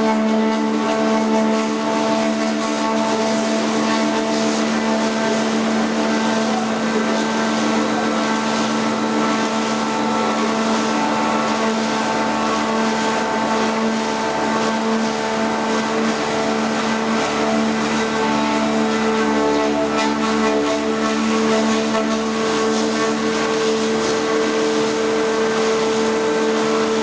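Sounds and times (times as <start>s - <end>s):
machine humming and hissing: 0.0s - 27.0s.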